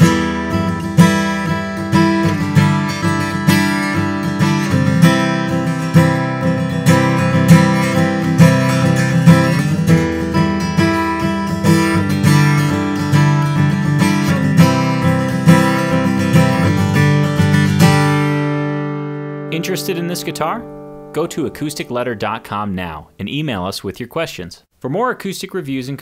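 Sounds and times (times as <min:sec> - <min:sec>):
acoustic guitar picked and strummed: 0:00.0 - 0:23.4.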